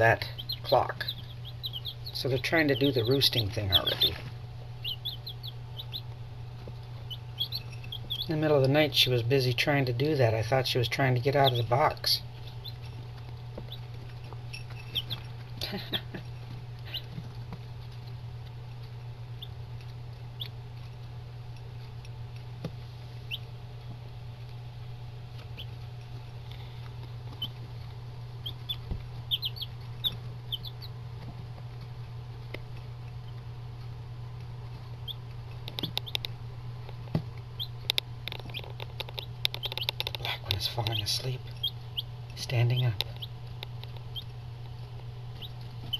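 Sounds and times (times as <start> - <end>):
chicks peeping: 0.0 - 24.6, 25.2 - 45.9
chicks scratching food: 0.0 - 45.9
steady low hum: 0.0 - 45.9.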